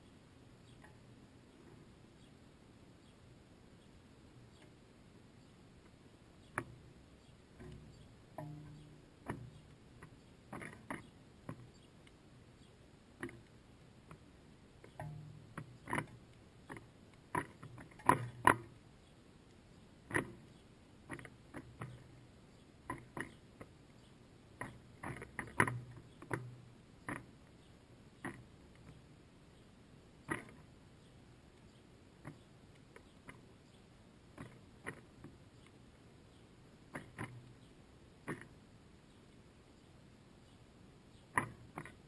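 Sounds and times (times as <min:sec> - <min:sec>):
birds pecking at seed: 0:00.0 - 0:42.0.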